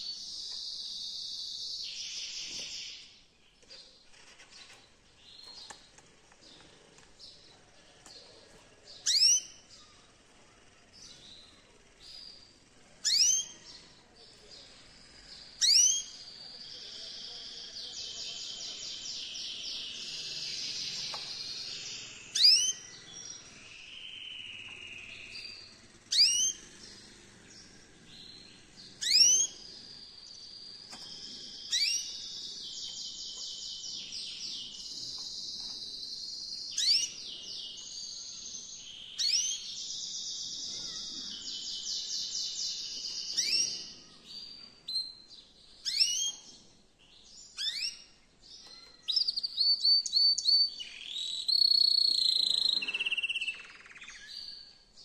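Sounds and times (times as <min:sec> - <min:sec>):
canary singing trills: 0:08.2 - 0:55.0.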